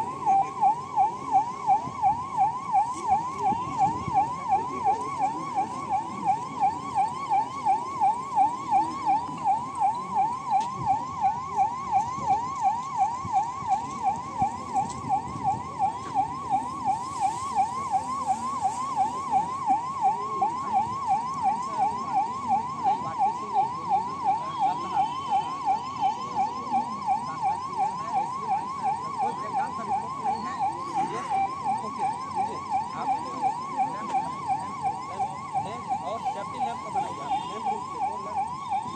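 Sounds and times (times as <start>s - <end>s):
electronic siren yelping: 0.0s - 38.9s.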